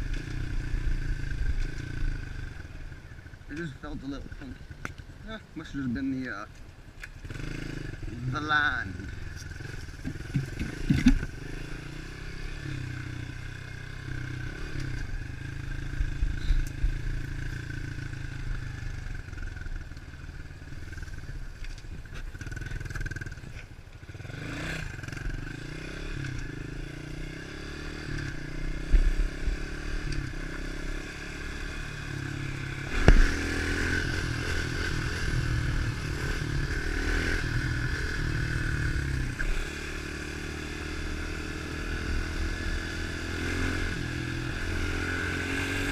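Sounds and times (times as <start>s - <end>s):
motorbike engine revving: 7.1s - 45.9s.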